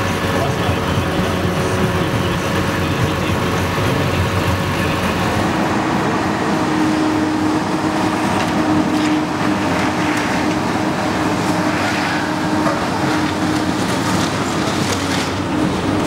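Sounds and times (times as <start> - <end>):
steady hum: 0.0 - 15.9
demolition site noise: 0.0 - 16.0
excavator diesel engine running: 0.0 - 16.0.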